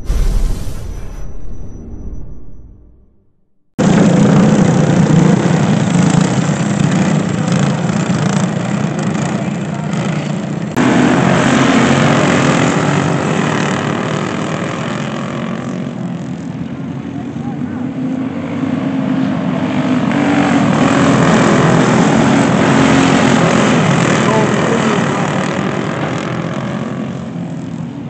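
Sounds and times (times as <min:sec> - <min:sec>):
go-kart engines racing: 0:03.8 - 0:28.0.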